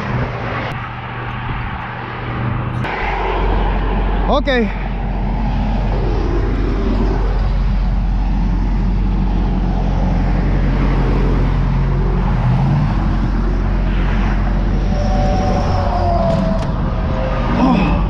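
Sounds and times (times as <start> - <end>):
highway traffic rumble: 0.0 - 18.0
low engine hum: 0.0 - 18.0.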